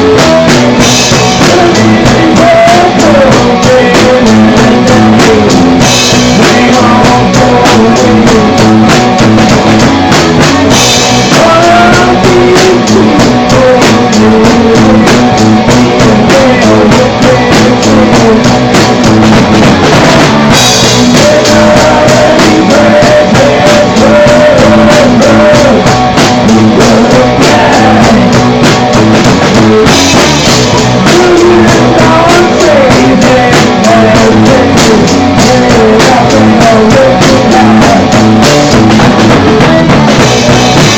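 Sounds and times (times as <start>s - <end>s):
punk rock band with singing: 0.0s - 40.9s.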